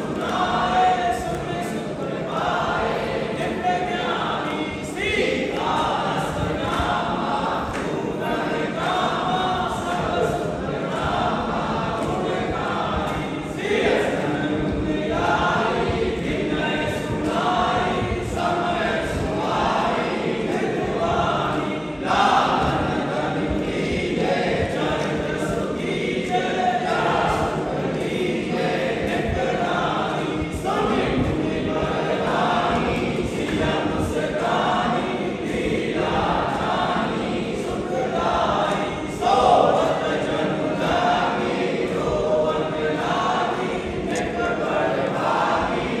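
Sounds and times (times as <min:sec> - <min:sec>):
group singing a hymn: 0:00.0 - 0:46.0.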